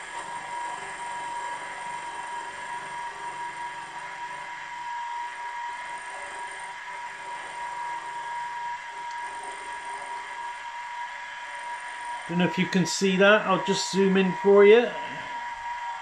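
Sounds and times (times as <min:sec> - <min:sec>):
milling machine whine: 0:00.0 - 0:16.0.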